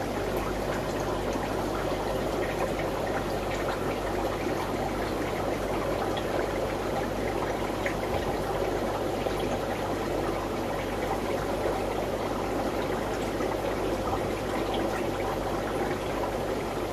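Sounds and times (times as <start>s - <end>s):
aquarium water bubbling: 0.0s - 16.9s.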